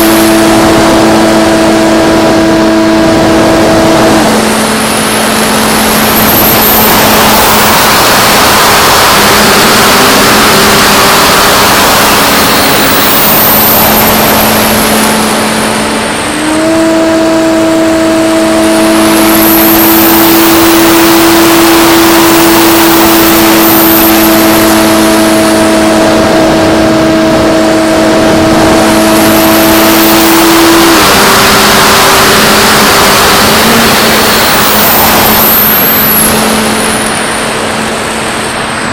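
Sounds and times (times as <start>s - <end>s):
electric motor and propeller whine: 0.0s - 38.9s
wind rush: 0.0s - 38.9s.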